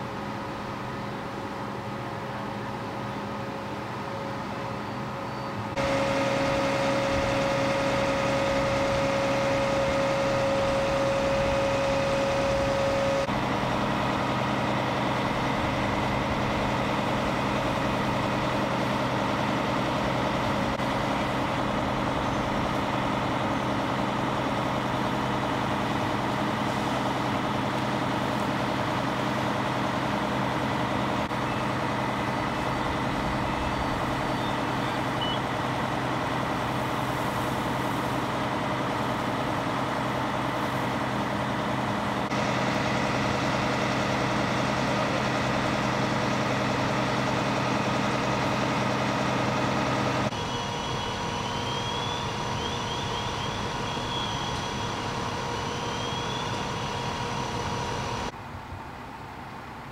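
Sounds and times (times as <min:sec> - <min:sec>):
diesel truck engine idling: 0:00.0 - 0:58.4
steady whine: 0:03.4 - 0:58.4.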